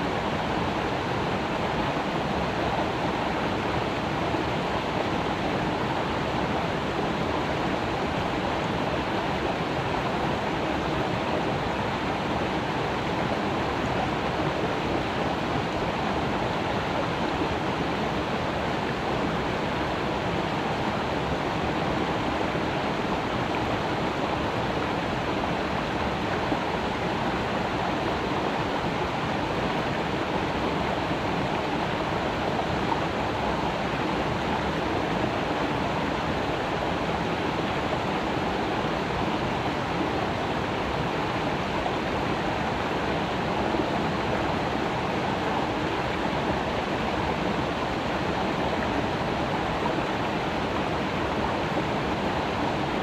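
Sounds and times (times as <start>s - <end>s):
creek water running over rocks: 0.0s - 53.0s.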